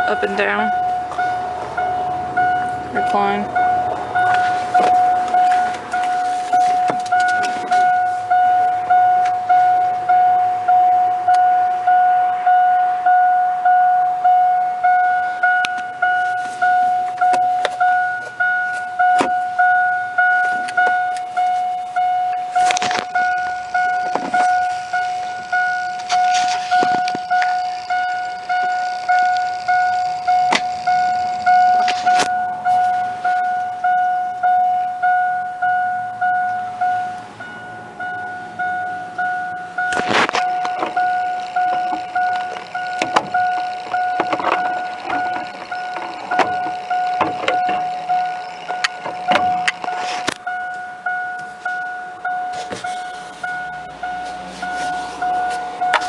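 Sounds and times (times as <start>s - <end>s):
car warning chime dinging: 0.0s - 56.0s.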